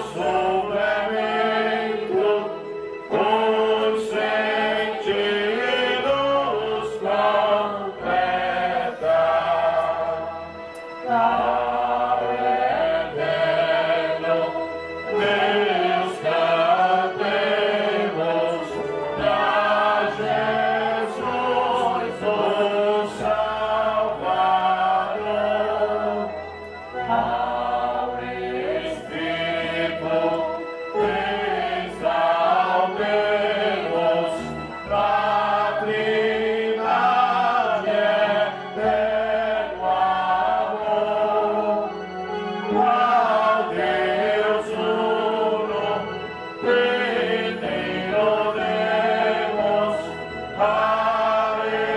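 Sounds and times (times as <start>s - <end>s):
low held accompaniment notes: 0.0s - 51.9s
voices singing a hymn: 0.0s - 51.9s.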